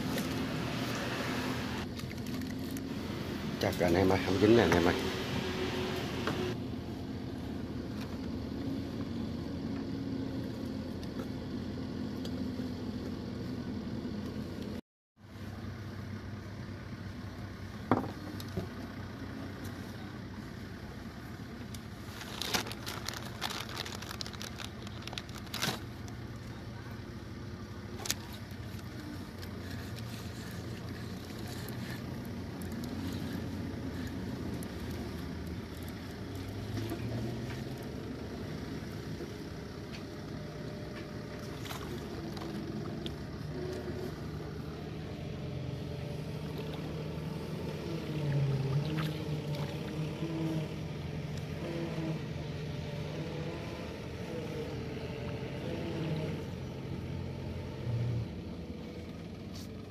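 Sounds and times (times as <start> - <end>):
boat engine humming: 0.0 - 57.8.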